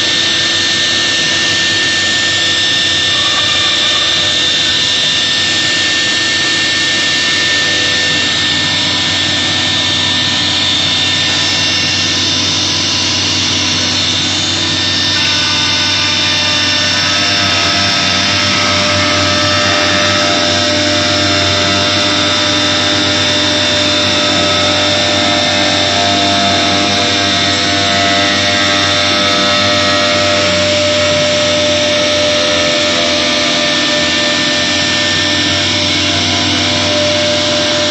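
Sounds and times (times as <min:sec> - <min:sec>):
router spindle whining: 0:00.0 - 0:37.9
steady tones: 0:03.1 - 0:37.9.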